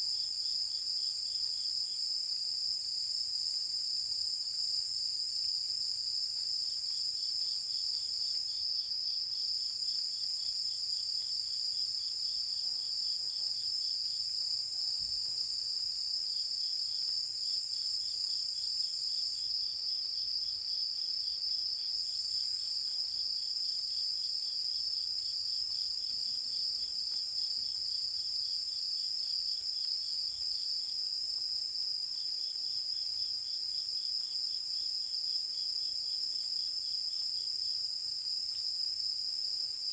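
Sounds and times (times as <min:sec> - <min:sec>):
rapid insect chirp: 0:00.0 - 0:39.9.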